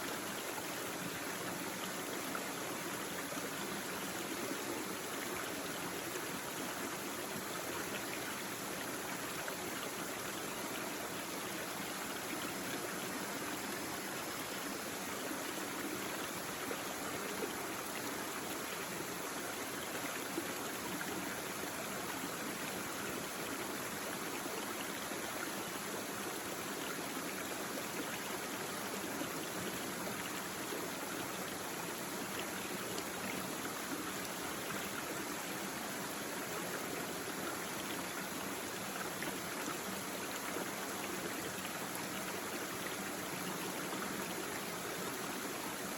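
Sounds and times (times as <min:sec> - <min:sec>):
brook babbling over stones: 0:00.0 - 0:45.9.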